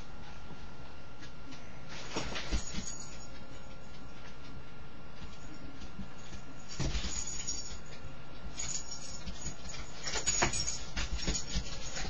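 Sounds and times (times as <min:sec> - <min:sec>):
dogs scuffling and rustling: 0:00.2 - 0:12.0.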